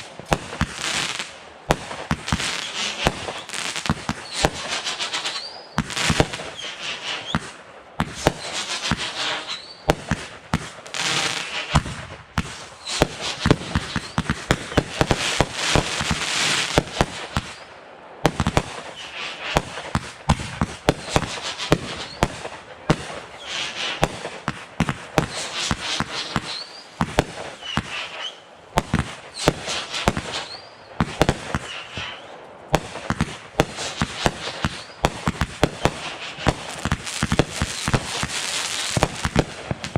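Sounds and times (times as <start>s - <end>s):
fireworks bangs and pops: 0.0s - 39.9s
fireworks crackling: 0.0s - 39.9s
rising fireworks whistles: 0.0s - 39.9s.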